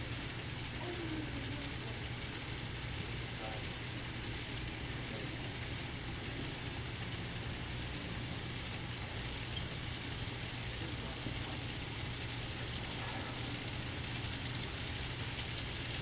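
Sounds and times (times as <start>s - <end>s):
model train humming: 0.0s - 16.0s.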